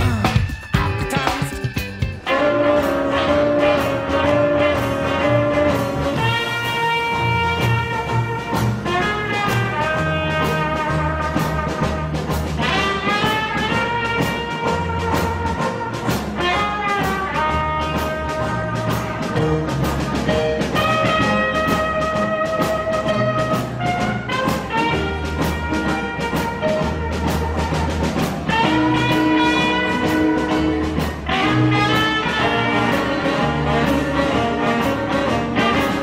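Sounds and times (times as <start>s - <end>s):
jazz band playing: 0.0s - 36.0s
trumpet holding notes: 0.0s - 36.0s.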